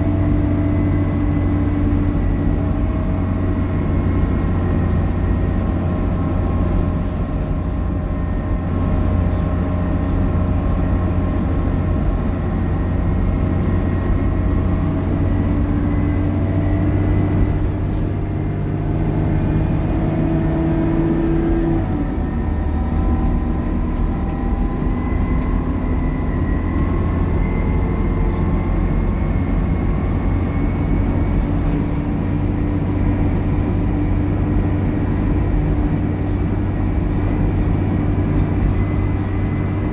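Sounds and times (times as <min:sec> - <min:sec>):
bus engine drone with whine: 0:00.0 - 0:39.9.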